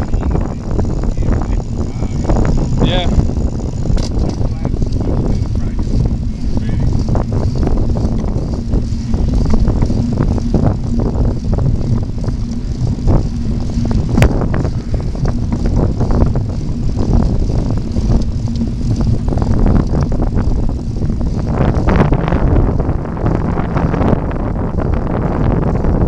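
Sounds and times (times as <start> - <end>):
bicycle tyres rattling on path: 0.0 - 26.0
faint steady hum: 0.0 - 26.0
wind rumbling on microphone: 0.0 - 26.0.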